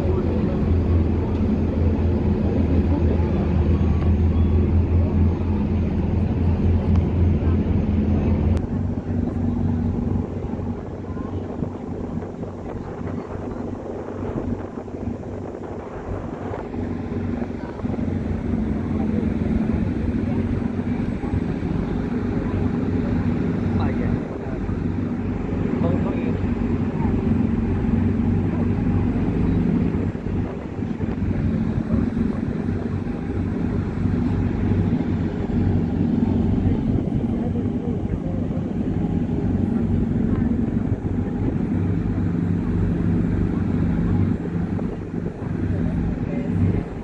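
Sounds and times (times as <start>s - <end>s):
ship engines droning: 0.0s - 47.0s.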